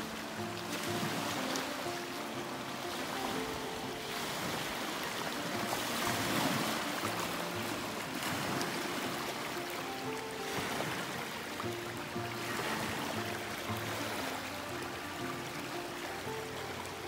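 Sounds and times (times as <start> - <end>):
lake water splashing against rocks: 0.0 - 17.0
quiet background music: 0.0 - 17.0.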